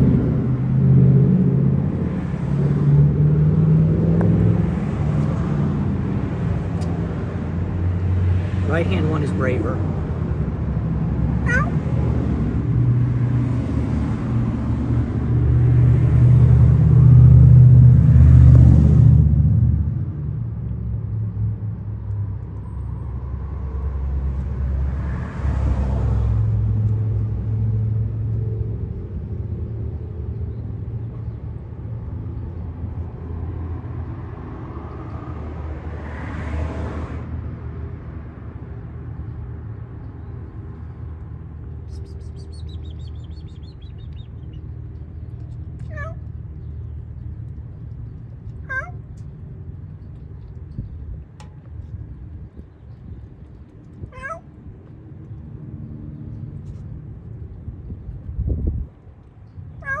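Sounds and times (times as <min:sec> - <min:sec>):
vehicle passing by: 0:00.0 - 0:59.1
road traffic rumble: 0:00.0 - 1:00.0.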